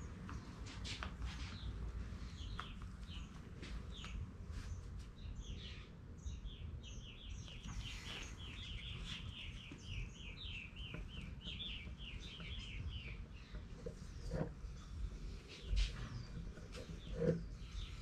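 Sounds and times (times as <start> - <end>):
songbird chirping: 0.3 - 18.0.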